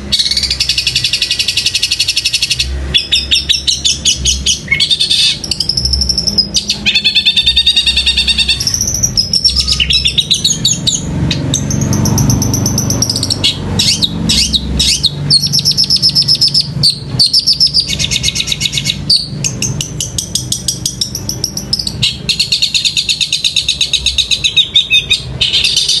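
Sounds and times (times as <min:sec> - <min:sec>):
bird singing fast chattering notes: 0:00.0 - 0:26.0
sparrow-like chirps: 0:00.0 - 0:26.0.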